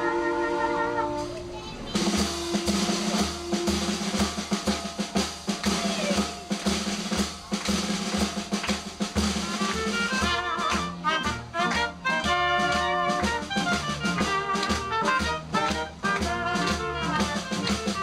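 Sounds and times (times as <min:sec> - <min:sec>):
jazz horns playing: 0:00.0 - 0:18.0
snare rolls and rimshots: 0:01.2 - 0:18.0.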